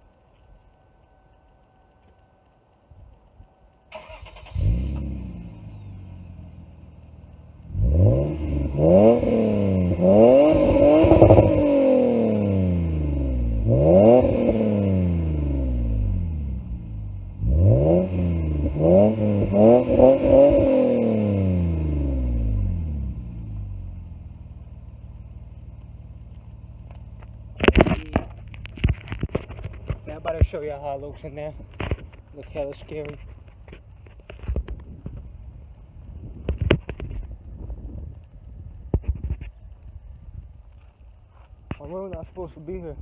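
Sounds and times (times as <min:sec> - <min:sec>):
car engine idling and revving: 0:00.0 - 0:43.0
car engine starting: 0:03.8 - 0:43.0.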